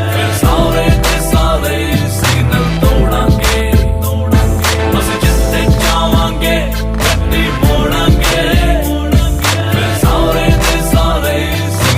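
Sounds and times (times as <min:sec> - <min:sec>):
sustained bass notes and chords: 0:00.0 - 0:11.9
drum beat: 0:00.4 - 0:11.2.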